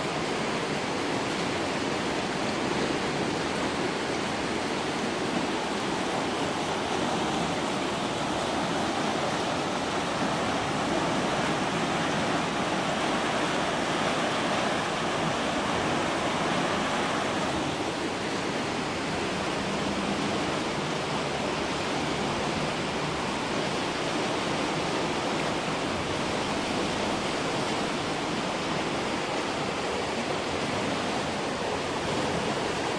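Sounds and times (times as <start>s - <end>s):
rushing floodwater roar: 0.0s - 32.9s.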